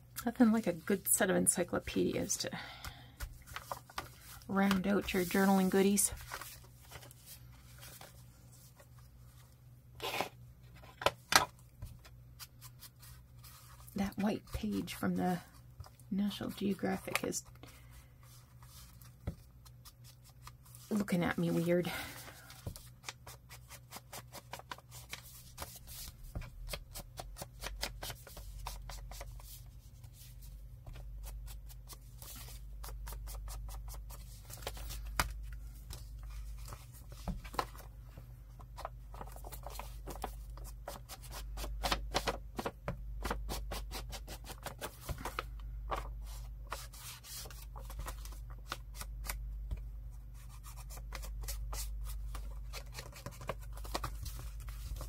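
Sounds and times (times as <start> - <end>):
paper pages rustling: 2.9 - 14.9, 15.8 - 37.9, 38.6 - 49.4, 50.4 - 55.0.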